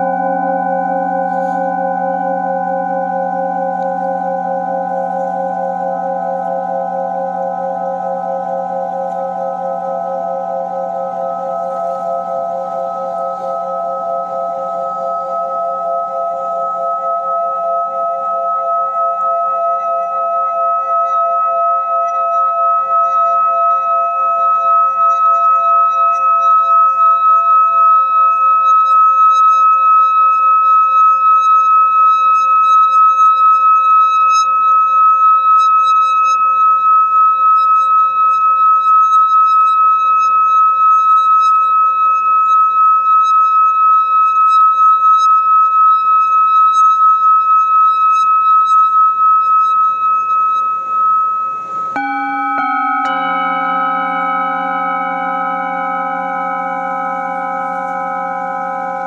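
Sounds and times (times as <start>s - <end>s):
singing bowl ringing tone: 0.0s - 59.0s.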